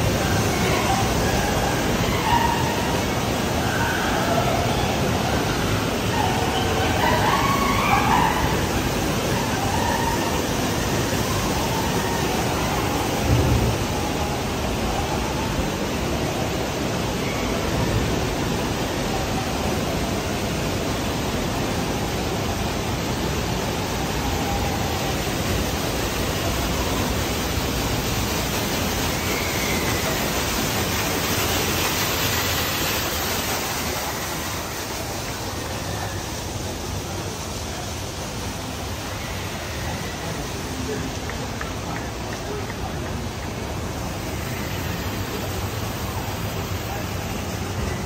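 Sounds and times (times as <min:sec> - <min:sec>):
water rushing down: 0:00.0 - 0:48.0.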